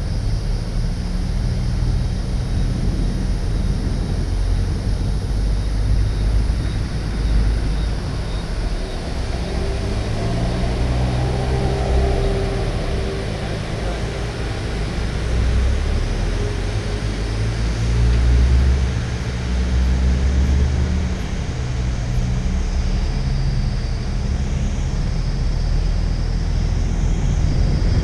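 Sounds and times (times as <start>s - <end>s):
car engine running: 0.0s - 28.0s
road noise: 0.0s - 28.0s.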